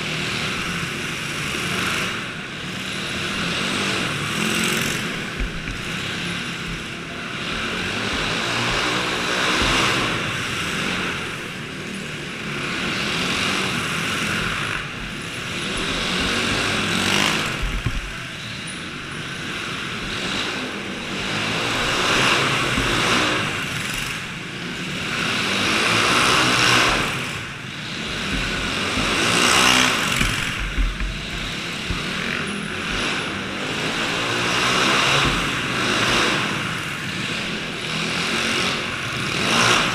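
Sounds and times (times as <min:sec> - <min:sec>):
dirt bike engine revving: 0:00.0 - 0:39.9
go-kart engine revving: 0:00.0 - 0:39.9.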